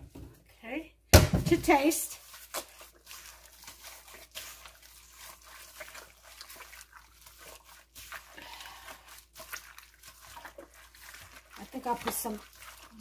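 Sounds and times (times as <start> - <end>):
wet squishing of raw chicken: 1.7 - 13.0.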